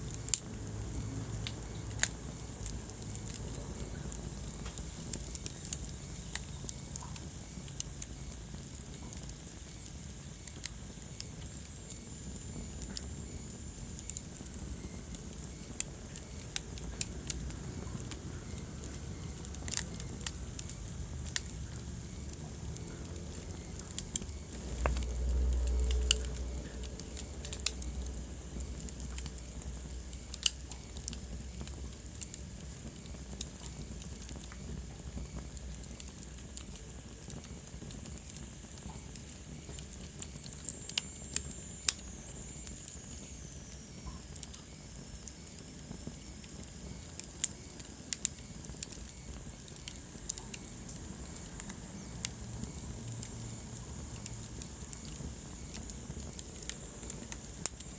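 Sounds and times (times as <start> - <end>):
fire rumbling: 0.0 - 57.9
logs crackling and popping: 0.0 - 57.9.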